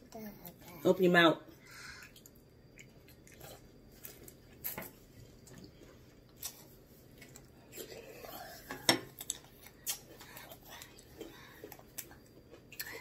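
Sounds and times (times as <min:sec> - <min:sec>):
chewing cereal: 0:01.9 - 0:13.0.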